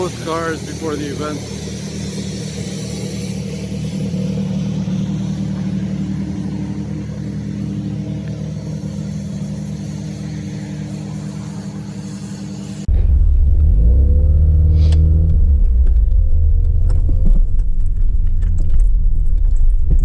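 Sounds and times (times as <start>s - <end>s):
rotary car engine running: 0.0s - 20.0s.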